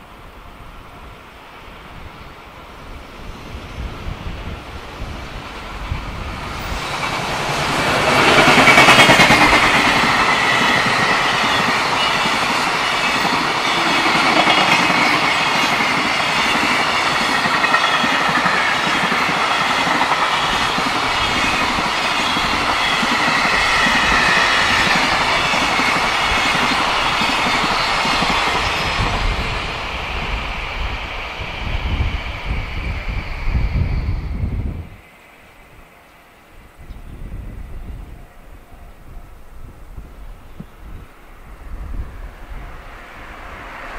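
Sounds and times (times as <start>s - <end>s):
electric locomotive passing: 0.0s - 43.9s.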